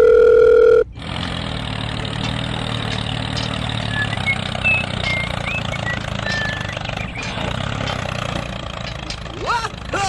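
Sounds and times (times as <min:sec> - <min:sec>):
small engine idling: 0:00.9 - 0:10.0.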